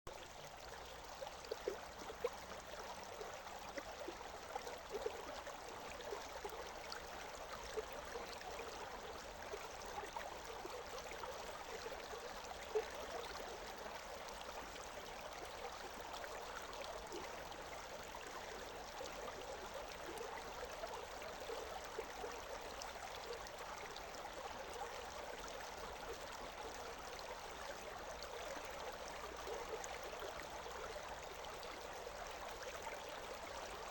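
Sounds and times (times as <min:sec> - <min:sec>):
stream water running: 0:00.1 - 0:33.9.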